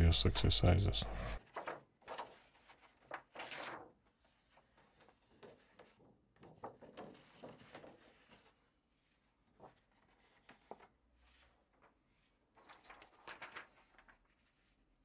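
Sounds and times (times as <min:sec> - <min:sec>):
paper sheets rustling: 0:00.3 - 0:14.9.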